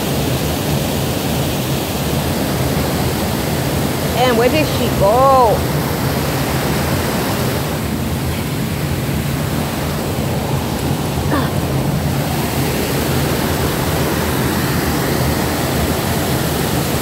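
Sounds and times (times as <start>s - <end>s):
waterfall and stream rushing: 0.0s - 17.0s.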